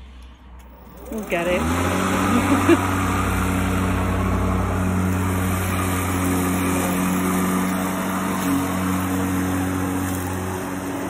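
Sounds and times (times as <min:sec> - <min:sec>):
electric lawnmower humming: 0:00.6 - 0:11.0
mower blade cutting grass: 0:00.6 - 0:11.0.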